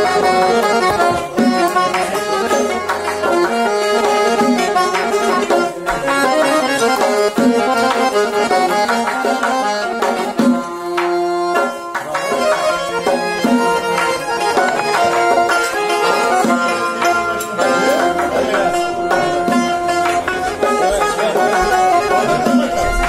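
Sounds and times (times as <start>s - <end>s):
strummed lute folk melody: 0.0s - 23.0s.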